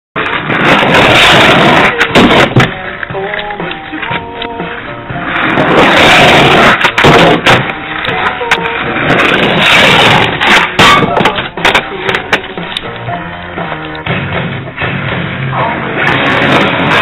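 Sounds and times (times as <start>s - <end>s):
background music: 0.2s - 17.0s
skateboard clacks: 0.2s - 17.0s
skateboard wheels rolling on concrete: 0.2s - 17.0s.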